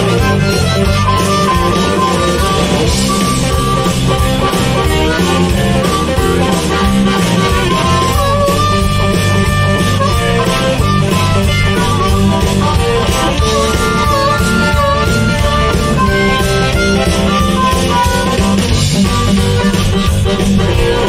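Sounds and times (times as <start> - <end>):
bass: 0.0 - 21.0
drums: 0.0 - 21.0
electric guitar: 0.0 - 21.0
harmonica solo: 0.0 - 21.0.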